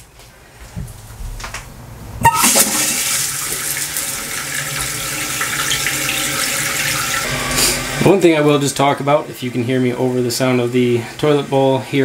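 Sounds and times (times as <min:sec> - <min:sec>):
toilet tank filling: 0:02.2 - 0:12.0.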